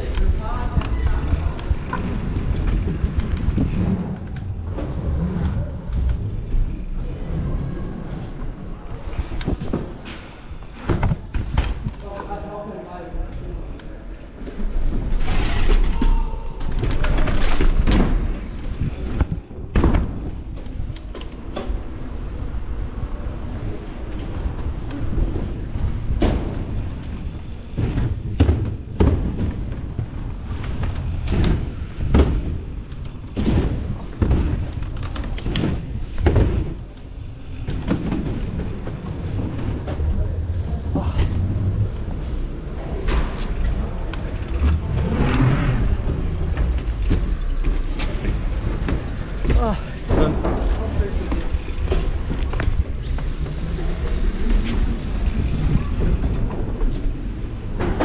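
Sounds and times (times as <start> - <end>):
bike tyres rumbling on ramps: 0.0 - 58.0.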